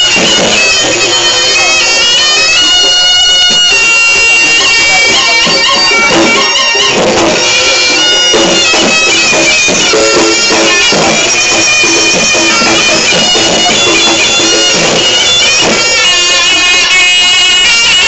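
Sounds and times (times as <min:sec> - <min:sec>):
shawm playing wavering melody: 0:00.0 - 0:18.0.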